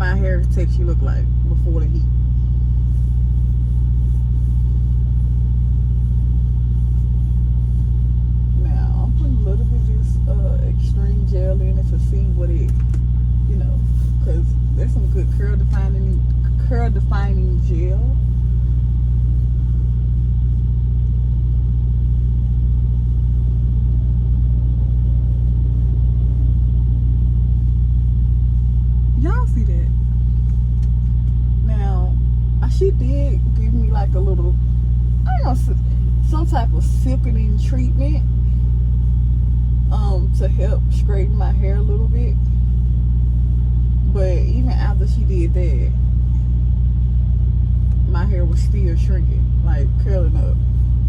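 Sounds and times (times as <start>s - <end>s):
truck engine rumble: 0.0s - 51.0s.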